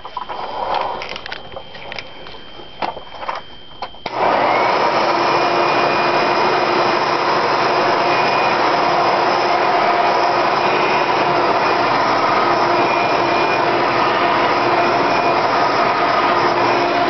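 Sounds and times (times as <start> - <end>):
upright vacuum running with whine: 0.1 - 17.0.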